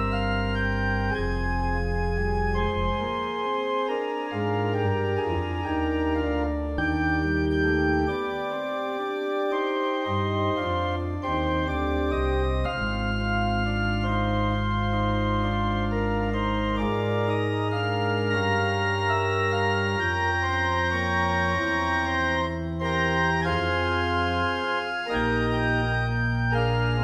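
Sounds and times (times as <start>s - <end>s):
organ music: 0.0s - 27.0s.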